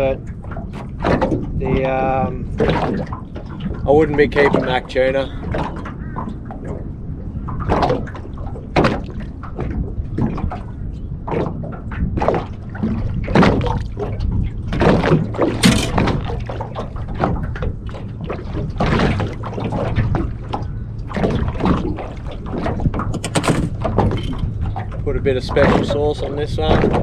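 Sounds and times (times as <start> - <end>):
waves slapping against boat hull: 0.0 - 27.0.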